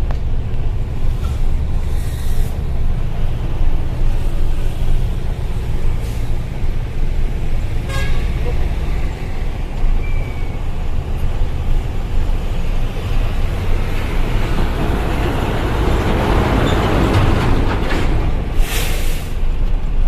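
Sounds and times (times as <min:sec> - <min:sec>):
broad rush of noise: 0:00.0 - 0:20.0
road rumble: 0:00.0 - 0:20.0
truck diesel engine: 0:00.0 - 0:20.0.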